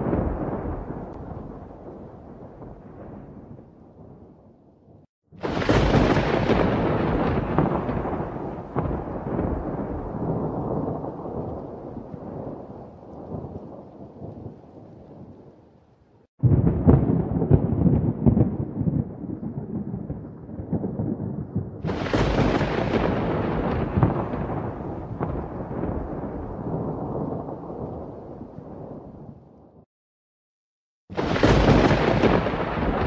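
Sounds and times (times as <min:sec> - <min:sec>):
thunder clap: 0:00.0 - 0:15.5, 0:16.4 - 0:29.9, 0:31.1 - 0:33.0
thunder rumbling: 0:00.0 - 0:15.6, 0:16.4 - 0:29.8, 0:31.1 - 0:33.0.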